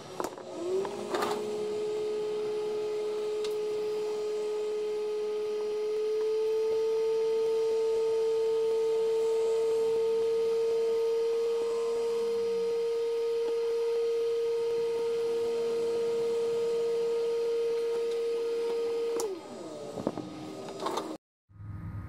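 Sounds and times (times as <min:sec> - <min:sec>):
hot air station whining: 0:00.0 - 0:21.2.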